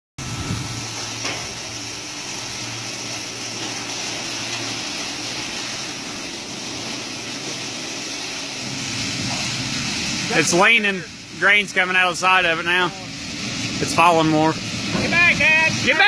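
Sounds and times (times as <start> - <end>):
even hiss: 0.2 - 16.0
low machine hum: 0.2 - 16.0.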